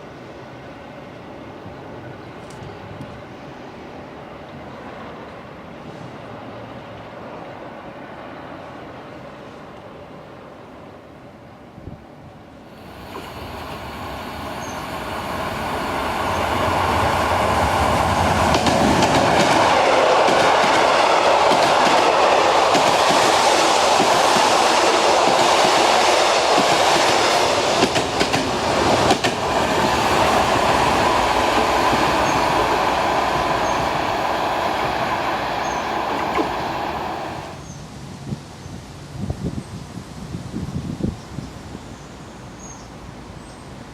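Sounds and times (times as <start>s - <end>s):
train passing: 0.0s - 38.2s.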